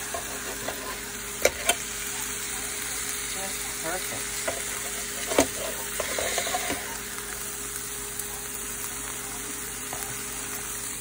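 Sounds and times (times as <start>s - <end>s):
electric grill sizzling: 0.0s - 11.0s.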